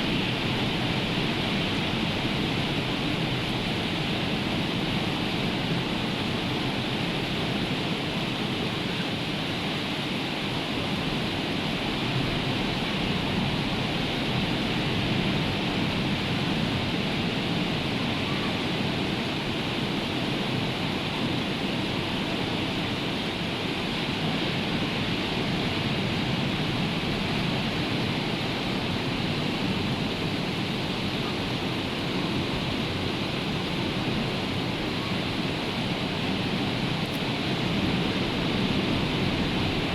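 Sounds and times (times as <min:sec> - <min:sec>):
rain: 0:00.0 - 0:39.9
rough sea surf: 0:00.0 - 0:39.9.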